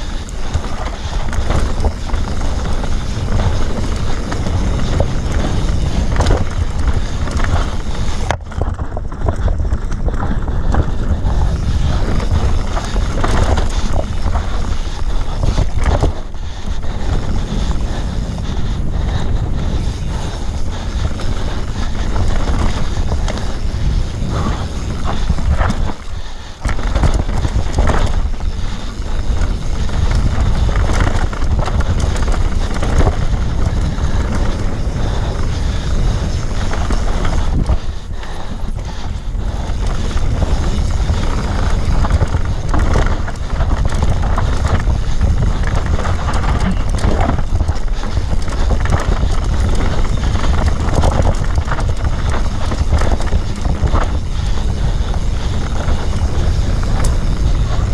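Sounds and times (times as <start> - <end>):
rattling and knocking on rough trail: 0.0 - 57.9
wind buffeting microphone: 0.0 - 57.9.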